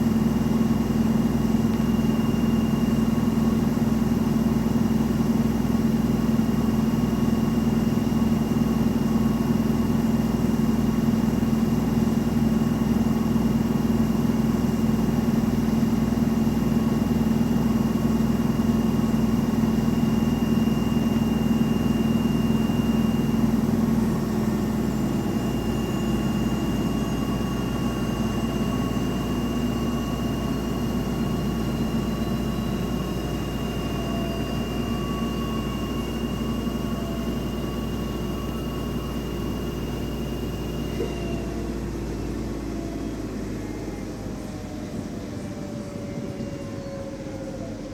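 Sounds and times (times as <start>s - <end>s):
washing machine spinning: 0.0s - 46.4s
faint high whine falling in pitch: 0.0s - 47.9s.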